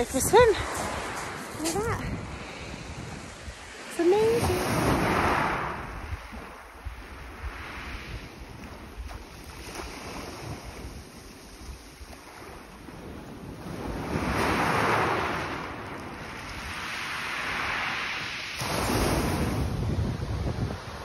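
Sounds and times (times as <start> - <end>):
wind buffeting microphone: 0.0 - 18.0, 18.6 - 21.0
waves washing onto pebble beach: 0.0 - 20.0.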